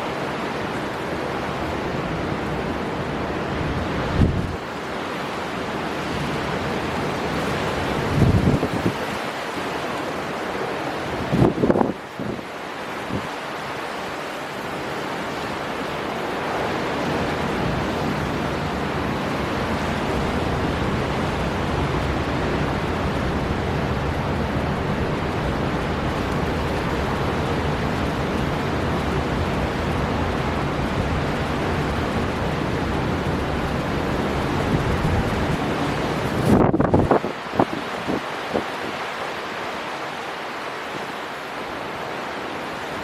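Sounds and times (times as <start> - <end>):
storm wind blowing hard: 0.0 - 40.0
heavy sea surf: 0.0 - 43.0.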